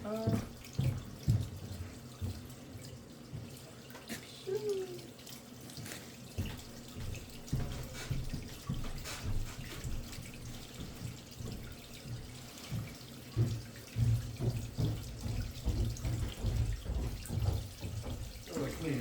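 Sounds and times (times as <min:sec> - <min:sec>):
knocks in drain line: 0:00.0 - 0:04.2, 0:06.3 - 0:19.0
water running through drain: 0:00.0 - 0:19.0.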